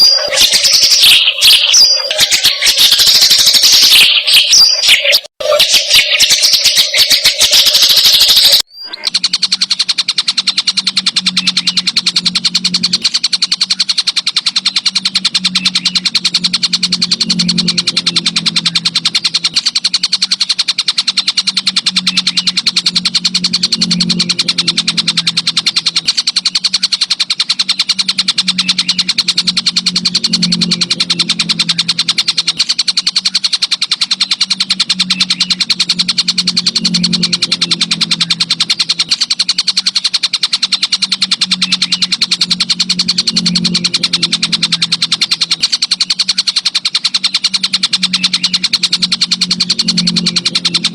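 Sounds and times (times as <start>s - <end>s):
insect trilling: 0.0s - 50.9s
low hum: 0.0s - 50.9s.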